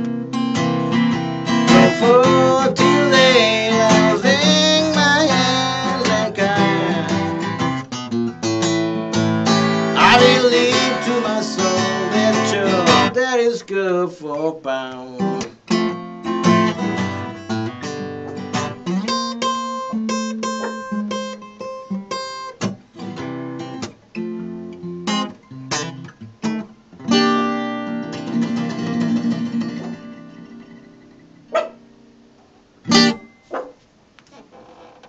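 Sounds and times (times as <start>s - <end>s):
fingerpicked acoustic blues guitar: 0.0s - 33.8s.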